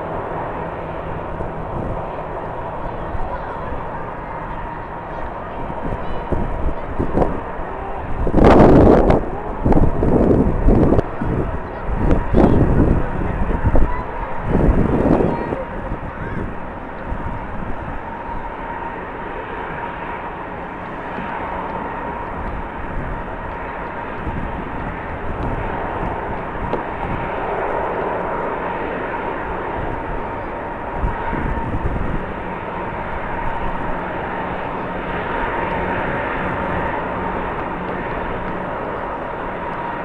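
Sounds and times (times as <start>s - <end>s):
jet engines whining: 0.0s - 40.0s
wind on microphone: 0.0s - 40.0s.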